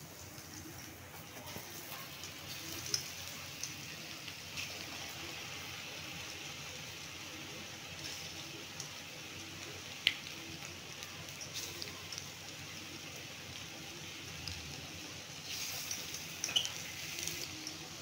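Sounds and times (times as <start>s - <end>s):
batter sizzling in hot oil: 0.0s - 18.0s.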